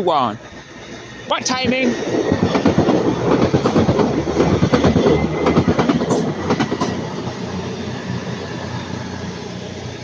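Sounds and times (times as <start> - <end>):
train rumble: 0.0 - 10.0
train wheels clattering on rails: 0.5 - 9.6.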